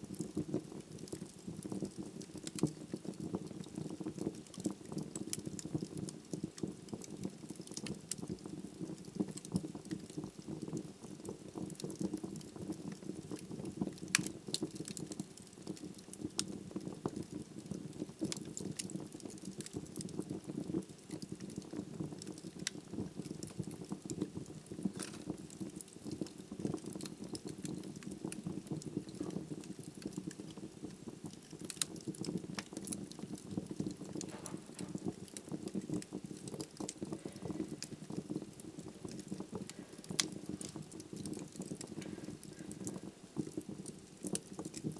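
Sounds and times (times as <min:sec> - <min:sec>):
flames rushing in fireplace: 0:00.0 - 0:44.9
wood crackling and popping: 0:00.0 - 0:44.9.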